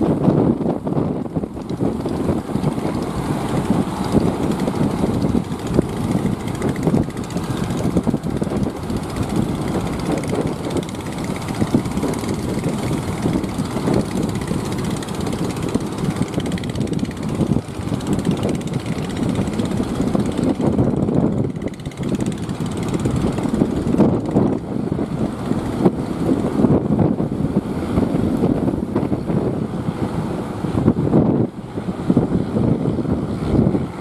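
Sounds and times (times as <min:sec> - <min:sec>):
heavy surf breaking: 0:00.0 - 0:32.6
wind on microphone: 0:00.0 - 0:34.0.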